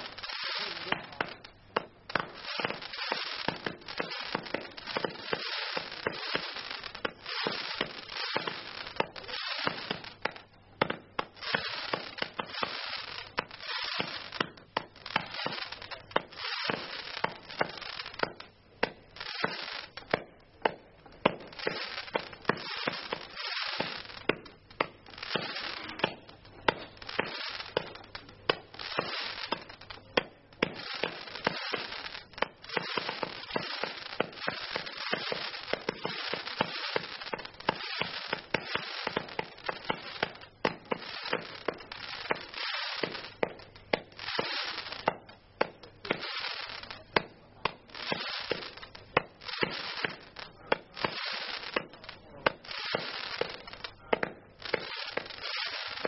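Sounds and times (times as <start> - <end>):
firework crackling: 0.0 - 56.0
firework launch bangs: 0.0 - 56.0.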